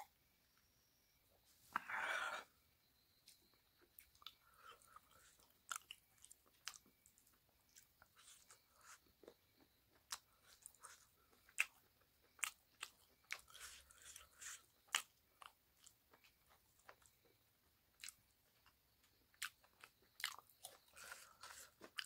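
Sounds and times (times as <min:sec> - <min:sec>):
chewing: 0:03.8 - 0:22.0.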